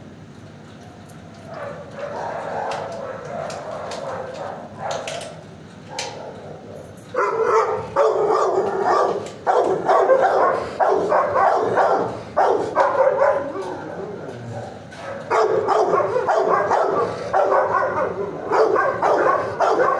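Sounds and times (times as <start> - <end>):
dogs barking: 1.4 - 19.9.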